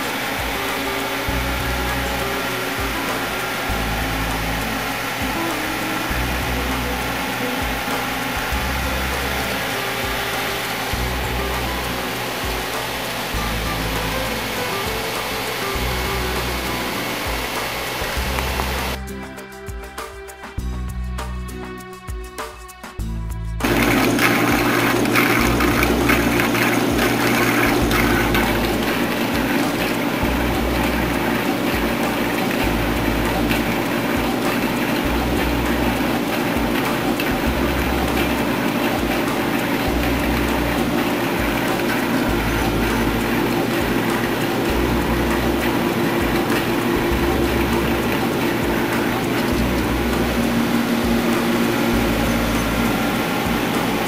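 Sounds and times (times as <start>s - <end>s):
low machine rumble: 0.0s - 19.0s, 23.3s - 54.0s
water pump rushing hum: 0.0s - 19.1s, 23.6s - 54.0s.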